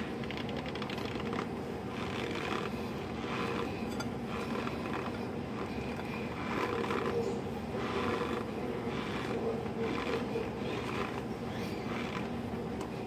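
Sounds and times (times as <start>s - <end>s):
steady low hum: 0.0s - 13.0s
chewing and crunching powder: 0.8s - 12.3s.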